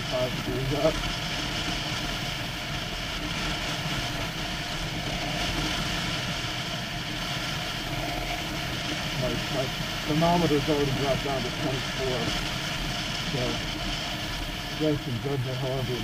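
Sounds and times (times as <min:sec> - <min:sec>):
motorcycle engine running: 0:00.0 - 0:16.0
wind noise: 0:00.0 - 0:16.0.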